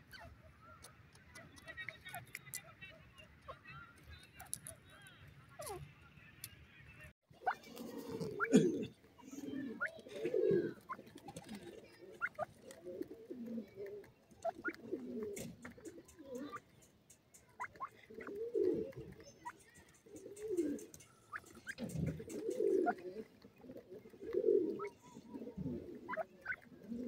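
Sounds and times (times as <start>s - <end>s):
birds murmuring contact calls: 0.0s - 27.0s
beaks pecking at grain: 0.2s - 5.8s, 9.6s - 27.0s.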